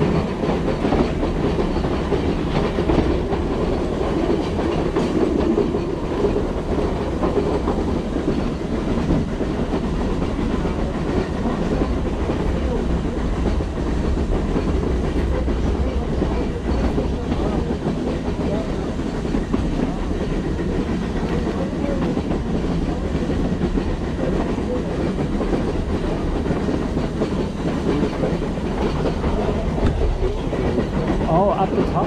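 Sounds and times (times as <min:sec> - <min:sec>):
train coaches rolling over rails: 0:00.0 - 0:32.0.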